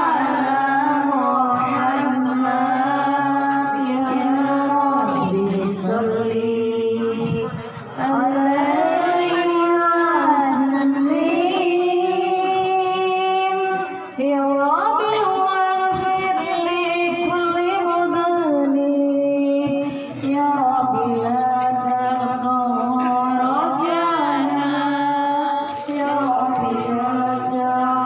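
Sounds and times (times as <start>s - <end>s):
person singing into a microphone: 0.0s - 28.0s.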